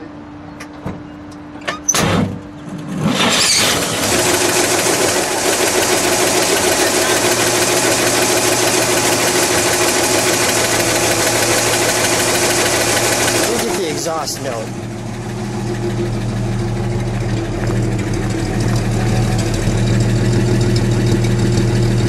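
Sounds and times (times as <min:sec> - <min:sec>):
engine cranking and starting: 0:02.0 - 0:22.0.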